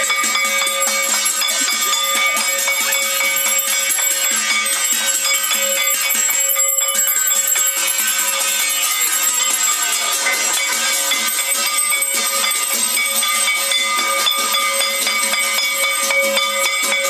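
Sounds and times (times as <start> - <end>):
many bells ringing: 0.0 - 17.0.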